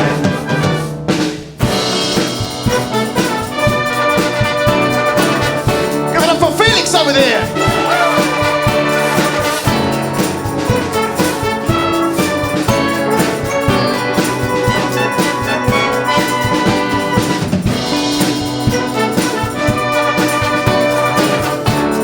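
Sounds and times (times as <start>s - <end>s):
trumpets and trombones playing: 0.0s - 1.3s, 1.9s - 22.0s
steady drum beat: 0.0s - 22.0s.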